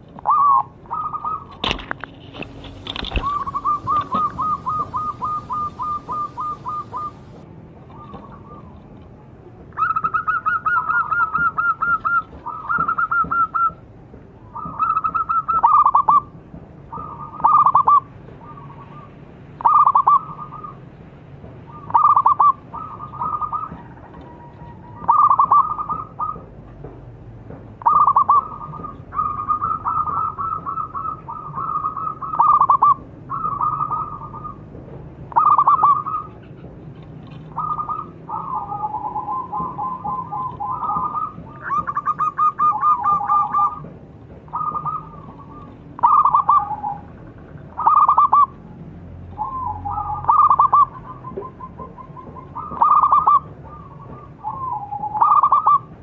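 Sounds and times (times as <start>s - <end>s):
dove trilled cooing: 0.2s - 1.9s, 2.5s - 8.8s, 9.8s - 13.8s, 14.5s - 16.3s, 16.9s - 20.9s, 21.7s - 26.5s, 27.8s - 34.7s, 35.3s - 43.9s, 44.5s - 48.6s, 49.4s - 56.0s.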